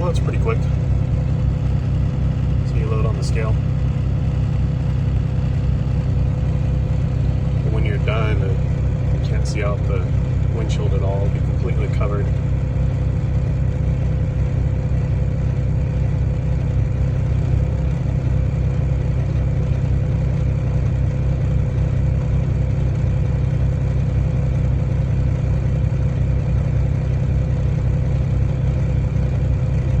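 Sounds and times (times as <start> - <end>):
constant higher hum: 0.0 - 30.0
truck engine idling: 0.0 - 30.0.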